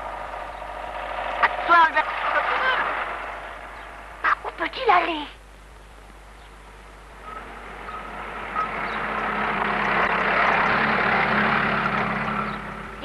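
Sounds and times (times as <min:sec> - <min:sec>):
jeep engine driving: 0:00.0 - 0:04.4, 0:06.7 - 0:13.0.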